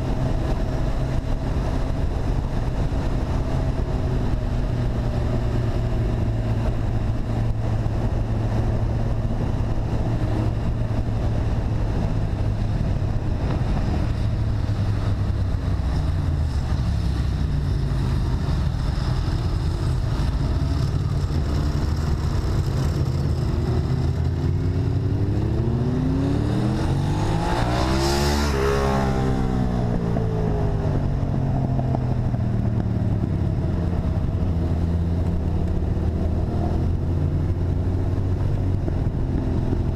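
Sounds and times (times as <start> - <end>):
engine passing by: 0.0 - 39.9
motorcycle engine running: 0.0 - 39.9.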